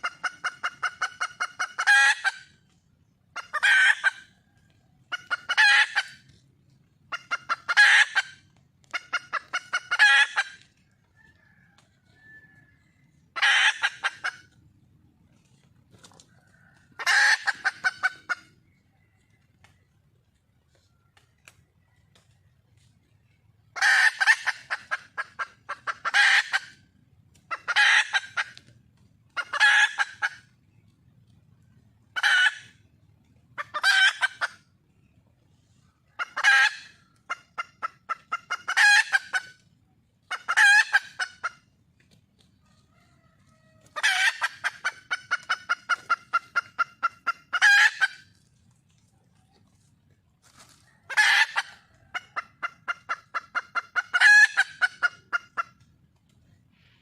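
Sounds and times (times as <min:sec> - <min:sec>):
hen clucking: 0:00.0 - 0:57.0.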